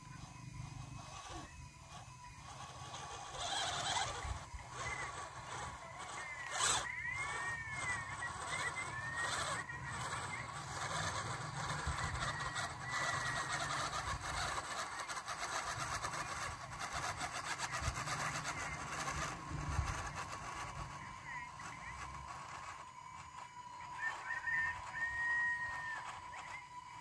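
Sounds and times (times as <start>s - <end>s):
small electric motor whining: 0.0s - 27.0s.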